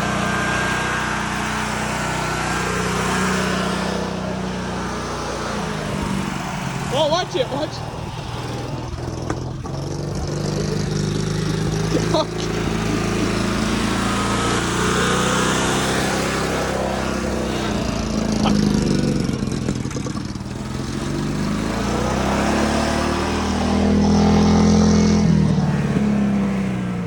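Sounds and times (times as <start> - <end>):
lawnmower engine running: 0.0 - 27.0.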